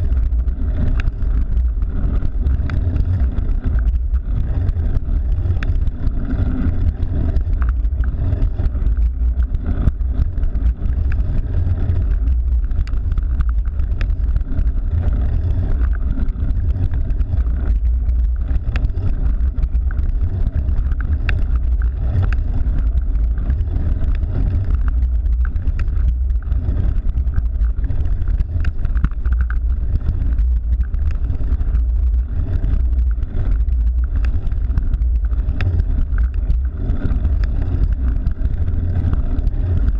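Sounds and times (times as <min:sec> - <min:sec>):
bicycle clicks and rattles: 0:00.0 - 0:39.9
wind buffeting microphone: 0:00.0 - 0:39.9.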